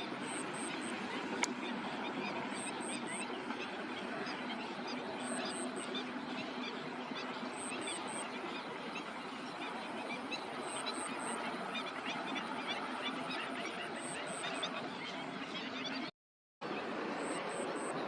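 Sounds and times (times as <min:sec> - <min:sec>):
flock of birds chirping: 0:00.0 - 0:16.1, 0:16.7 - 0:18.0.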